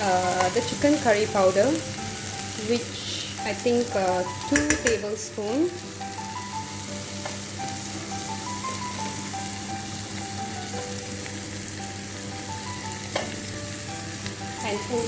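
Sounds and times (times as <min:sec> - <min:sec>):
faint background music: 0:00.0 - 0:15.0
food sizzling in oil: 0:00.0 - 0:15.0.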